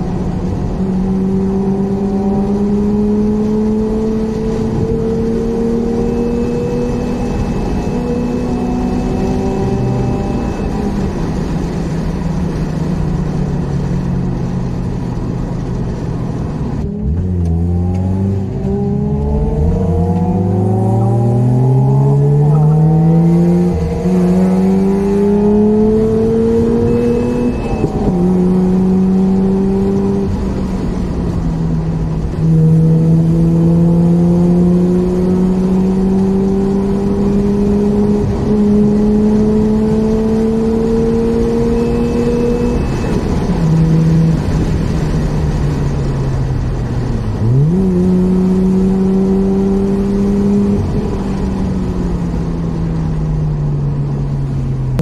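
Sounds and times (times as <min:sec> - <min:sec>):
rotary engine accelerating: 0:00.0 - 0:13.5, 0:15.9 - 0:55.0.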